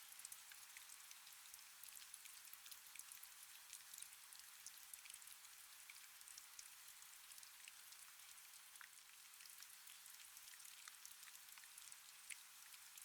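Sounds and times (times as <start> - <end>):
rain with drops ticking: 0.0 - 13.0.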